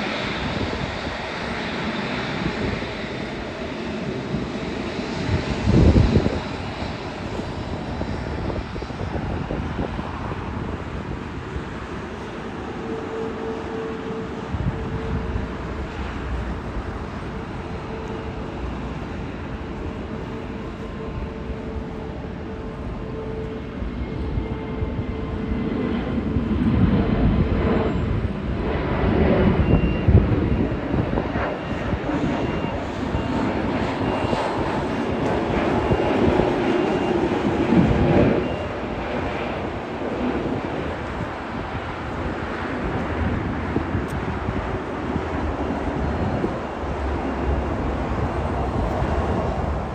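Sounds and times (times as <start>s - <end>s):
jet engine hum: 0.0s - 49.9s.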